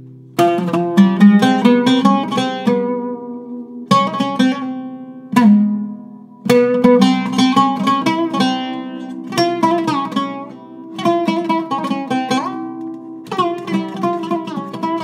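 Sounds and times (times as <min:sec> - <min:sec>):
oud plucked notes: 0:00.0 - 0:15.0.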